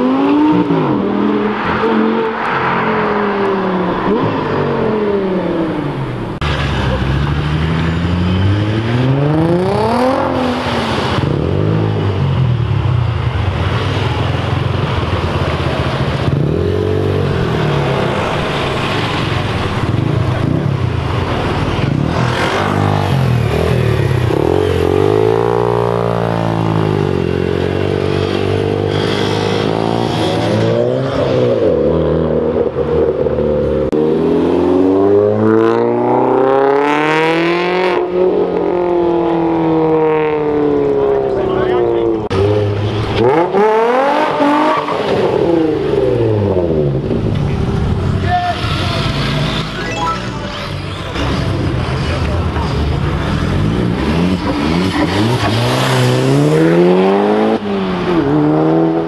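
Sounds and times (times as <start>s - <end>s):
car engines revving past: 0.0s - 59.0s.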